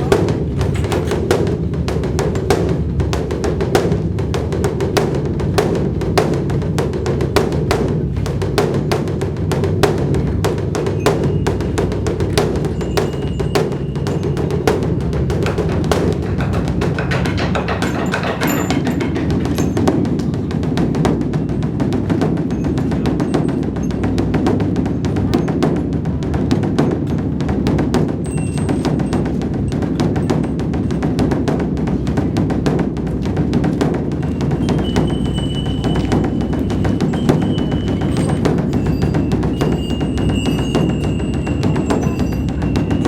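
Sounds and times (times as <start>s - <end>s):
large drum beaten rapidly: 0.0s - 43.0s.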